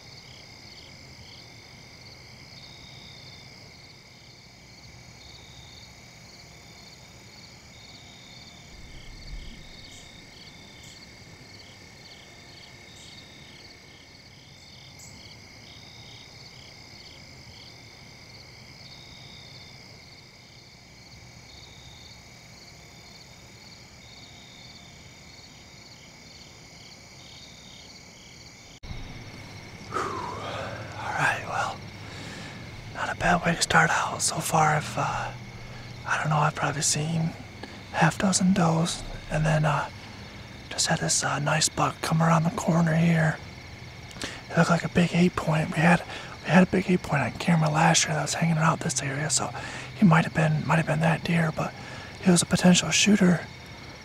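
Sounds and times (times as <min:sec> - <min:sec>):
crickets trilling: 0:00.0 - 0:54.0
pulsed insect chirp: 0:00.0 - 0:54.0.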